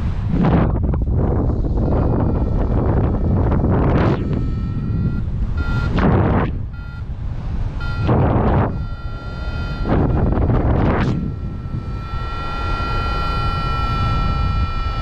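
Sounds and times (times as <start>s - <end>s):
wind gusts on microphone: 0.0s - 15.0s
variometer beeping: 1.8s - 15.0s.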